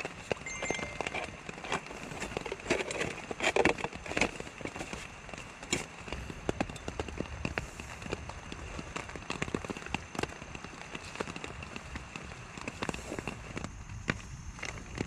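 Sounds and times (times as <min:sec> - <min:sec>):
rain hissing on a tarp: 0:00.0 - 0:00.5, 0:01.9 - 0:15.0.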